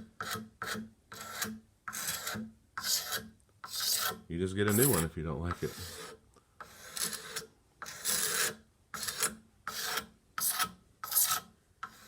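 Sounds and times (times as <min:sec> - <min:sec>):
sanding strokes on wooden handle: 0:01.2 - 0:12.0.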